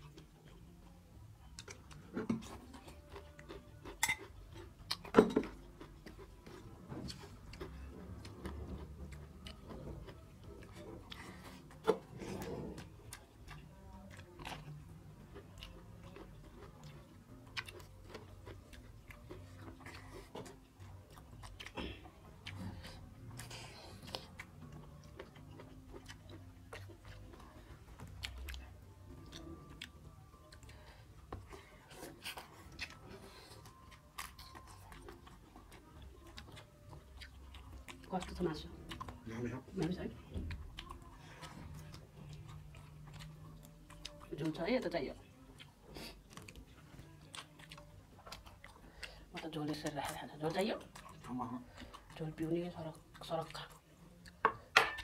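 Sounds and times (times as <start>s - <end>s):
chewing and mouth sounds: 0.0s - 55.0s.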